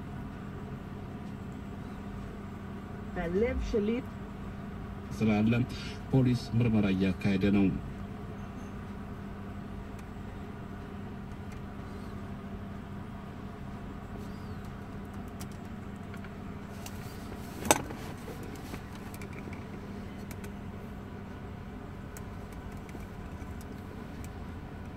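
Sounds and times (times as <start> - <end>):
low hum inside car cabin: 0.0 - 24.9.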